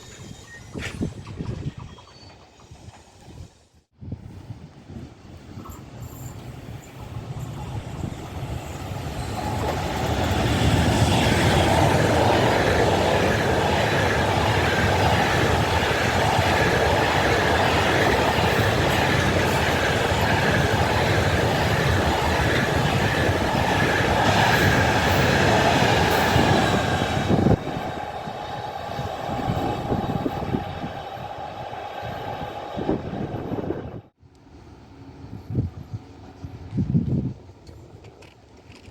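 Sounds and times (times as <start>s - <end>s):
train rumble passing: 0.0s - 38.0s.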